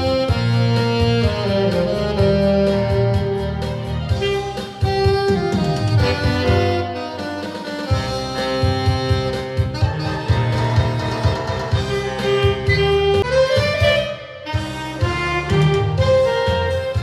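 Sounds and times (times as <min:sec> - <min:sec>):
accompaniment with steady bass: 0:00.0 - 0:17.0
saxophone playing melody: 0:00.0 - 0:17.0.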